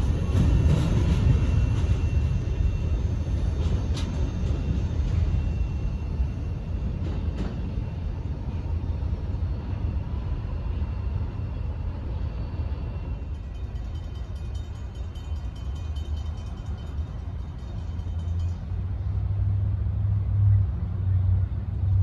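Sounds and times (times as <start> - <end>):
freight train rolling: 0.0 - 22.0.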